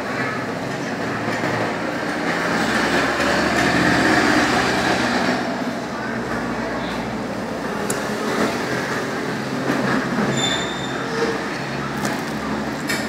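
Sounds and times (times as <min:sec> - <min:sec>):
busy street din: 0:00.0 - 0:13.0.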